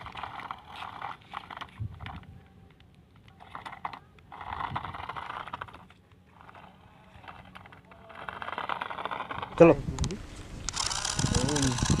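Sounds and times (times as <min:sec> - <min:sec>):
wheels scraping on dirt: 0:00.0 - 0:02.3, 0:03.4 - 0:12.0
toy car motor whirring: 0:00.0 - 0:02.5, 0:03.2 - 0:09.8, 0:10.6 - 0:12.0.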